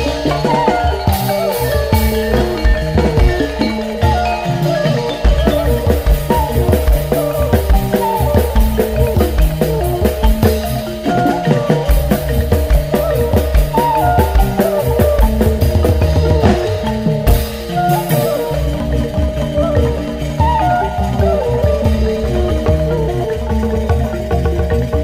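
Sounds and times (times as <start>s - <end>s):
drums: 0.0s - 25.0s
music with steady beat: 0.0s - 25.0s
repeated pitched notes: 0.0s - 25.0s.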